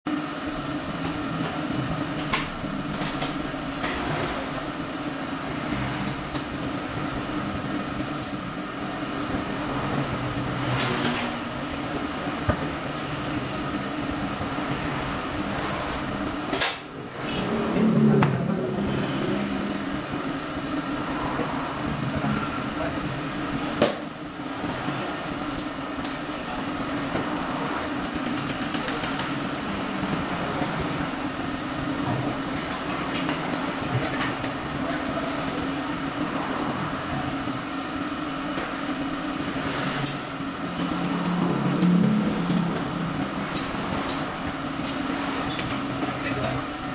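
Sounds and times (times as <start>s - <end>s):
machine hum: 0.1s - 46.9s.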